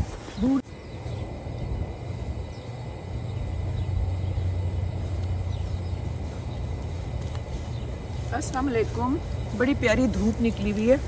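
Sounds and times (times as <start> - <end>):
outdoor low rumble: 0.0 - 11.0.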